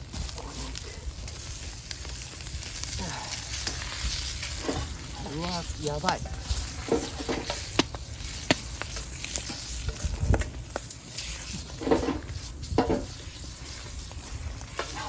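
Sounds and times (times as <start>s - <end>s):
food sizzling in frying pan: 0.0s - 15.0s
spatula scraping pan: 2.1s - 15.0s.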